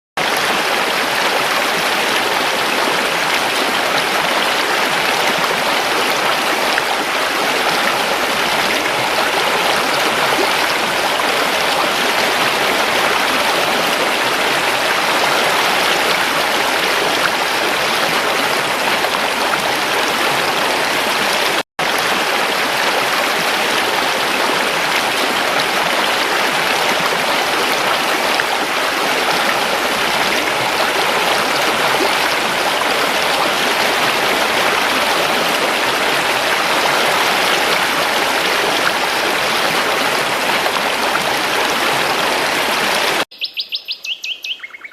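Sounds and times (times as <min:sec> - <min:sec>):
creek water flowing: 0:00.2 - 0:43.3.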